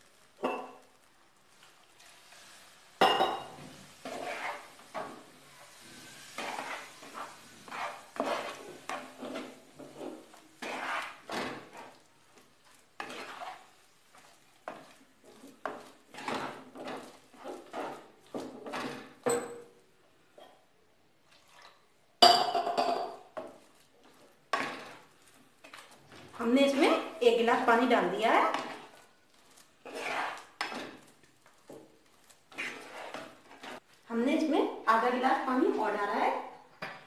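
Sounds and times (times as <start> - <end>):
spatula scraping a frying pan: 0.4 - 19.4, 23.2 - 34.0.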